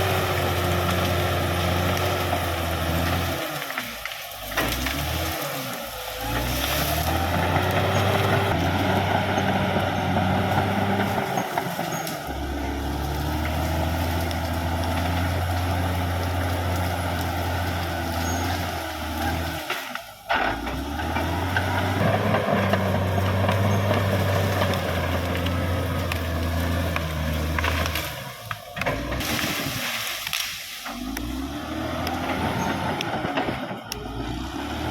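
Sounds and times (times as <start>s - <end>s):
bulldozer diesel engine drone: 0.0s - 34.9s.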